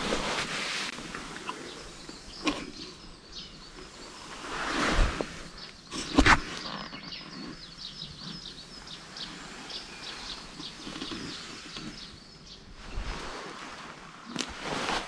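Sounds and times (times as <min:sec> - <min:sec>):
songbird chirping: 0:00.0 - 0:14.6
outdoor background hiss: 0:00.0 - 0:15.0.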